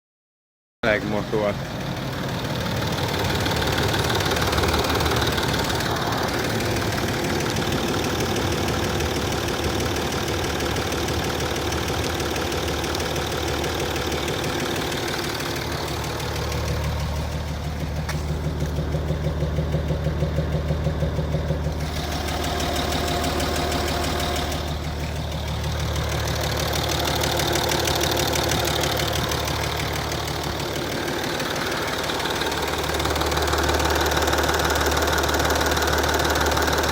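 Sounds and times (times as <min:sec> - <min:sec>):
diesel engine idling with knock: 0:00.8 - 0:36.9.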